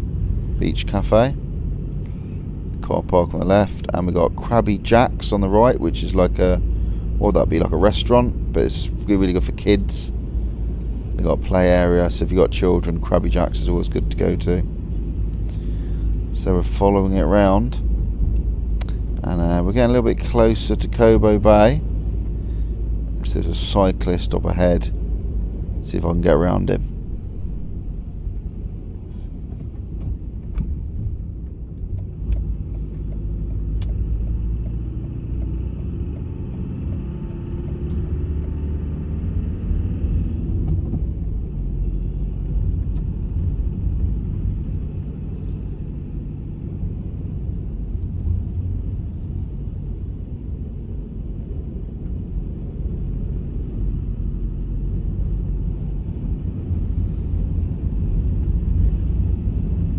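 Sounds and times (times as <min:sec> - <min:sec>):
car engine rumble: 0:00.0 - 0:59.9.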